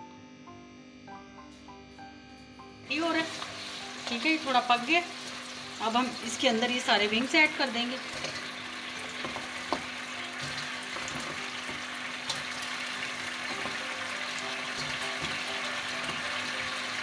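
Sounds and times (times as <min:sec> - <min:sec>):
sauce sizzling in a wok: 0:03.0 - 0:17.0.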